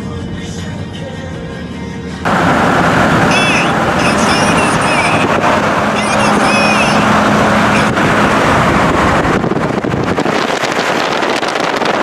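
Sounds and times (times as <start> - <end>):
vehicle road and wind noise: 0.0 - 12.0
wind buffeting on microphone: 2.3 - 12.0.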